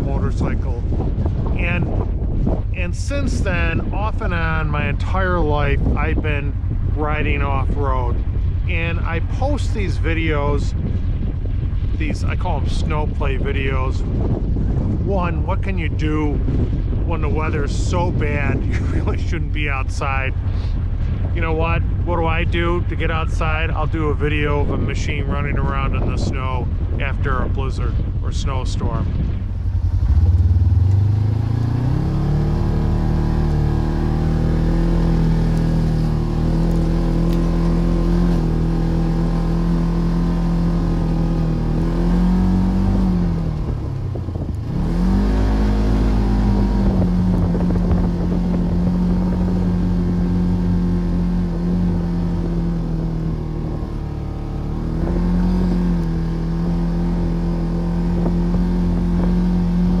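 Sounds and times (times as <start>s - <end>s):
off-road vehicle engine revving: 0.0s - 14.2s, 14.8s - 60.0s.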